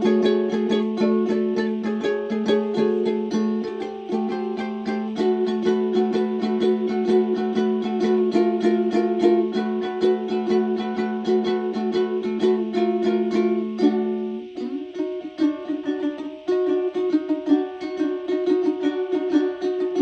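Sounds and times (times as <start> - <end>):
plucked string instrument picking: 0.0 - 20.0.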